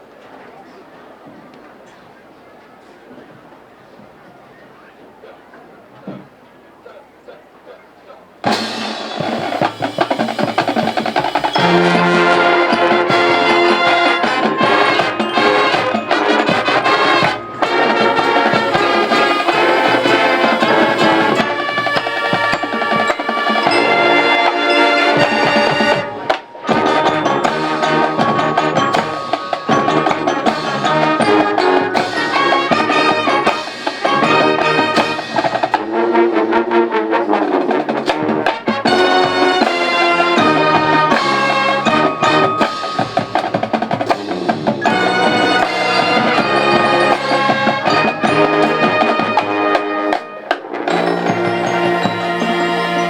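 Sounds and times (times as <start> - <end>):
brass melody: 8.4 - 53.0
drumline percussion: 8.4 - 53.0.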